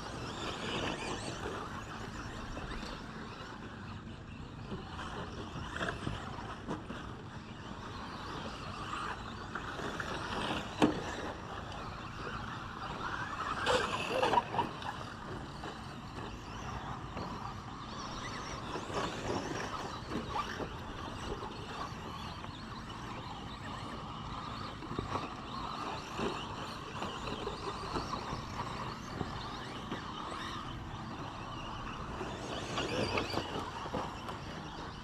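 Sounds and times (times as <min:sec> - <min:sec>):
remote control trucks running: 0:00.0 - 0:35.0.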